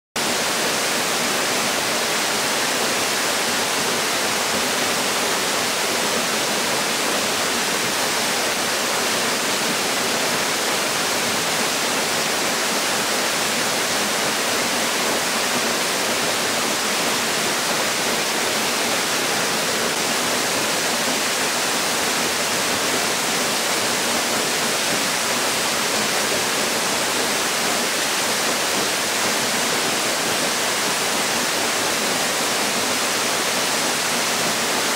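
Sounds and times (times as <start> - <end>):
waterfall crashing into pool: 0.2 - 34.9.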